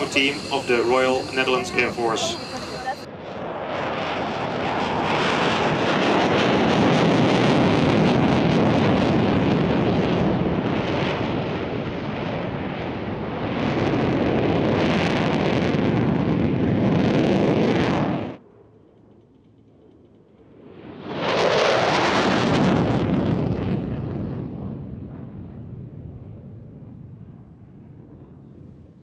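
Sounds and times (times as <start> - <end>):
fighter jet engine: 0.0 - 29.0.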